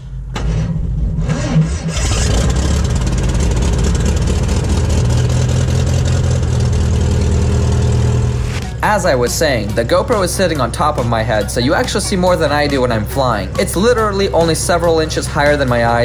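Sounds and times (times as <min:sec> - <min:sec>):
biplane engine starting and running: 0:00.0 - 0:16.0.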